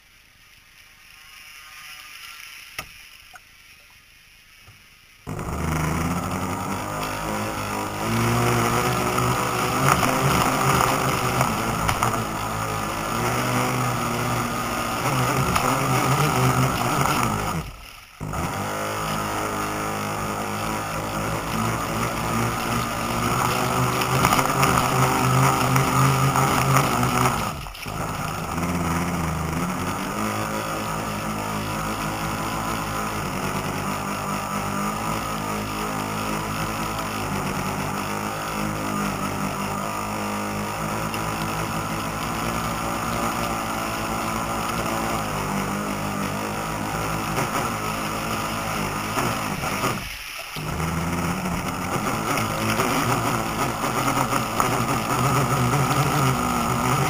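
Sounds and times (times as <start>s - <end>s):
model boat motor: 5.2s - 57.0s.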